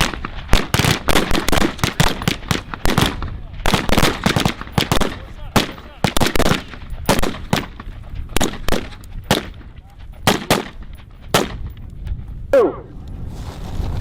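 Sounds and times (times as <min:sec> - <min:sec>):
rifle shots: 0:00.0 - 0:11.7.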